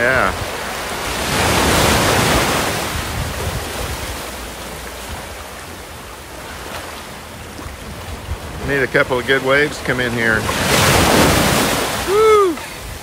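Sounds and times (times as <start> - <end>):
sea wave splashing against boulders: 0.0 - 13.0
water rushing over sand: 0.0 - 13.0.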